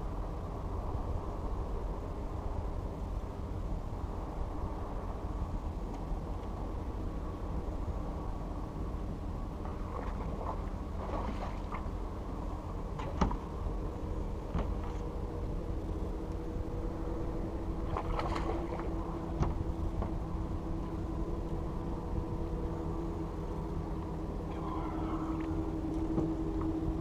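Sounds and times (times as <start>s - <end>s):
faint hum: 0.0s - 27.0s
low rumble: 0.0s - 27.0s.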